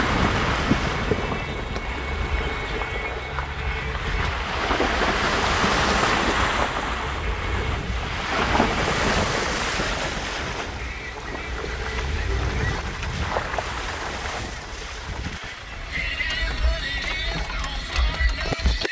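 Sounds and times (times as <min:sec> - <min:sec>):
wind buffeting microphone: 0:00.0 - 0:18.7.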